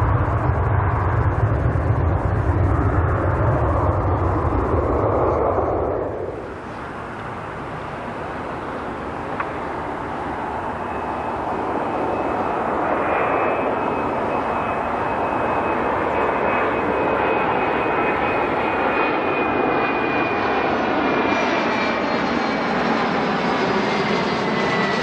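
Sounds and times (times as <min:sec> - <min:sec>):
high engine whine: 0:00.0 - 0:25.0
jet engine noise: 0:00.0 - 0:25.0.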